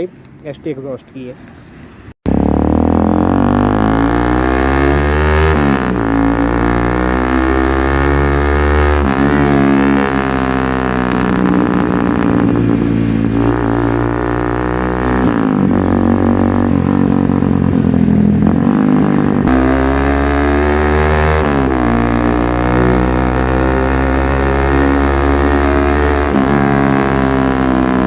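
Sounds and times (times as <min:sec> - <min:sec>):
motorcycle exhaust in tunnel: 0:02.3 - 0:28.0.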